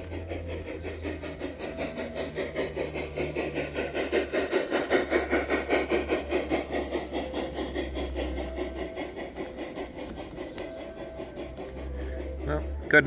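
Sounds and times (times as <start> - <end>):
low motor hum: 0.0 - 13.0
model train wheels clicking: 0.0 - 13.0.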